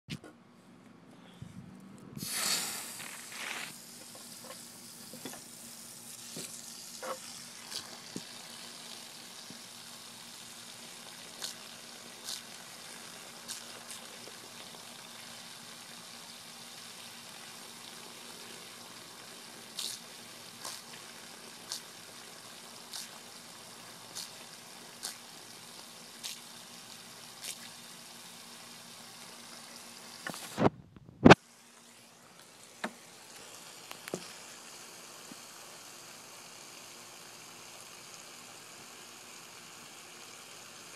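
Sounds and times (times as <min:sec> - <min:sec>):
hose water spraying onto lawn: 0:02.2 - 0:40.9.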